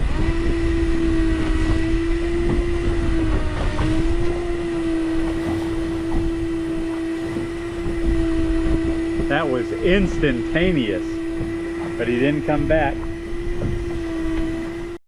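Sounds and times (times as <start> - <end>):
fishing reel motor whining: 0.0 - 15.0
wind rumble on microphone: 0.0 - 15.0.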